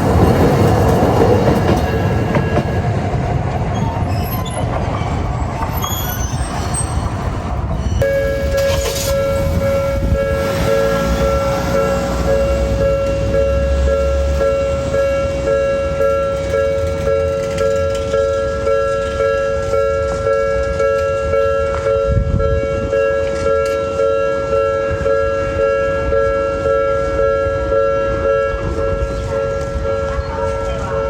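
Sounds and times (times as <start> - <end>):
tram low rumble: 0.0 - 31.0.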